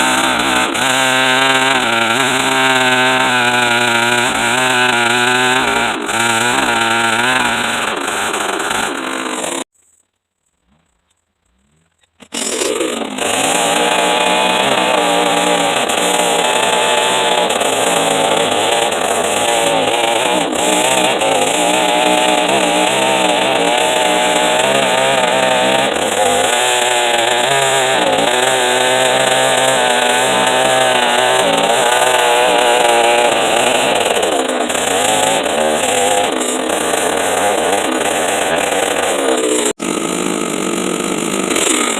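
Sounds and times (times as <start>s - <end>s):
chainsaw cutting wood: 0.0s - 9.7s, 12.2s - 41.9s.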